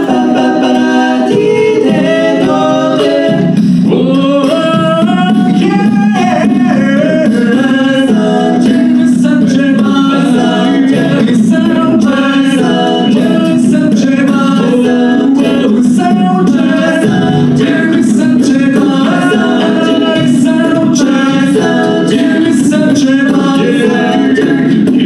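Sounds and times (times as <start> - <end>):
a cappella group singing: 0.0 - 25.0.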